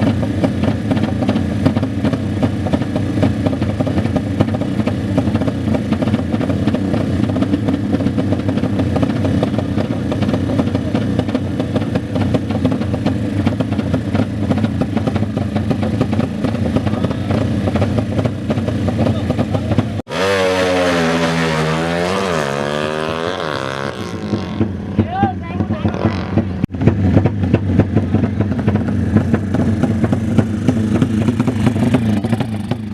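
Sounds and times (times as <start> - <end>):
motorcycle engines running: 0.0 - 32.9
racing motorcycle engine revving: 0.0 - 32.9.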